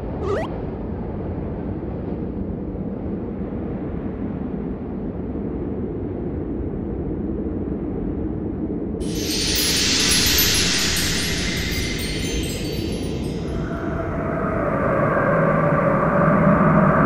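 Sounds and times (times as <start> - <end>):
rushing wind rumble: 0.0 - 17.0.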